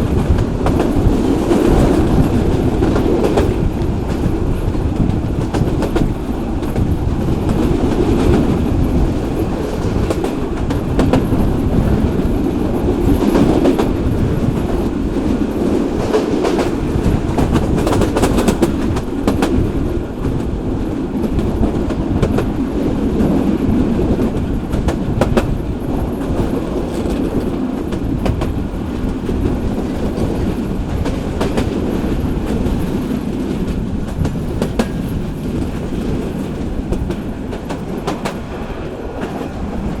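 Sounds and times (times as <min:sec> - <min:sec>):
train carriages rumbling: 0:00.0 - 0:40.0
wheels clicking over rail joints: 0:00.0 - 0:40.0.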